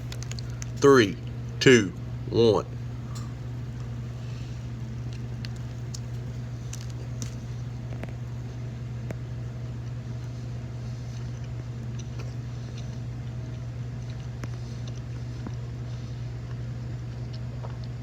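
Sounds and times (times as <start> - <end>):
person chewing: 0.0 - 1.6, 2.8 - 8.3, 9.6 - 18.0
steady low hum: 0.0 - 18.0.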